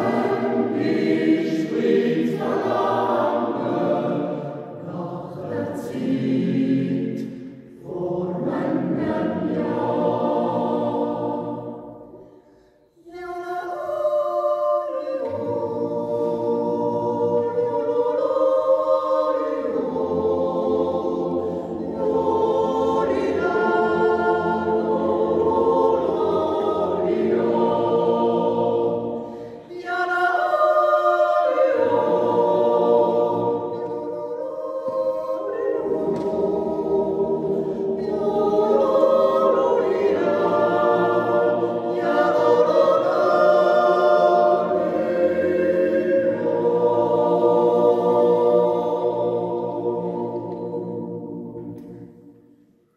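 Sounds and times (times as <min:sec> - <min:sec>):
mixed choir yodeling a cappella: 0:00.0 - 0:52.9.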